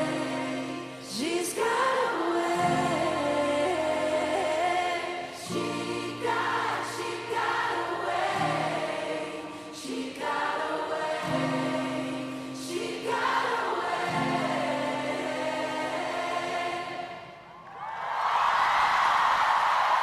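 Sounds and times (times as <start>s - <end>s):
choir-like backing voices: 0.0s - 17.8s.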